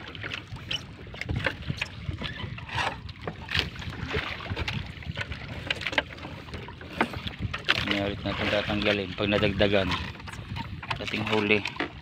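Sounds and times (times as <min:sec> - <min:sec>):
water splashes: 0:00.0 - 0:12.0
wind and sea rumble: 0:00.0 - 0:12.0.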